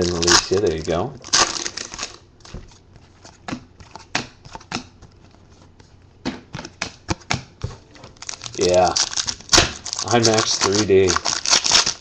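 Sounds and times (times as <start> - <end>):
trading cards clicking and slapping: 0.0 - 5.3, 6.3 - 12.0.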